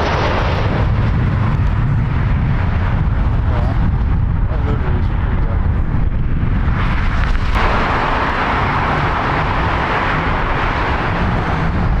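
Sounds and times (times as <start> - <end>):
hissing jet engine roar: 0.0 - 12.0
jet engine rumble: 0.0 - 12.0.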